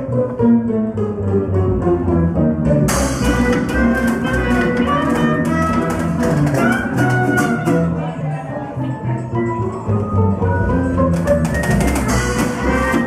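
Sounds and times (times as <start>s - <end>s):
jazz band playing: 0.0s - 13.0s.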